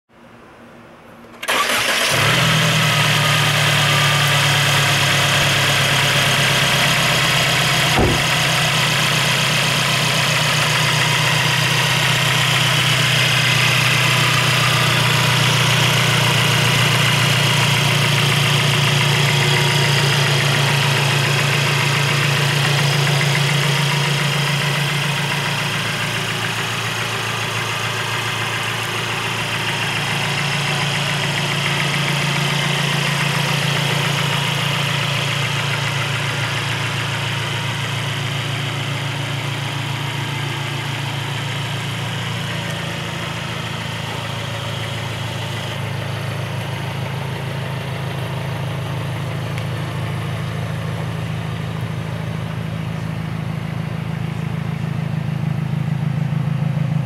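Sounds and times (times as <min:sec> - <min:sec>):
car engine starting and idling: 0:00.2 - 0:57.0.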